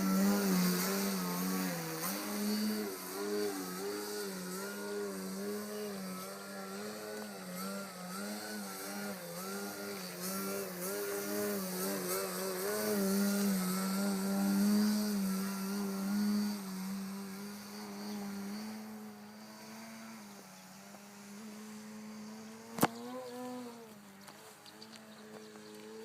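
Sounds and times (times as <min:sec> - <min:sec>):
model airplane motor drone: 0:00.0 - 0:26.0.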